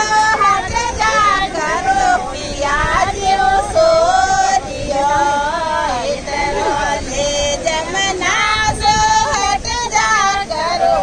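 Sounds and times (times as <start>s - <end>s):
women singing devotional song: 0.0s - 11.0s.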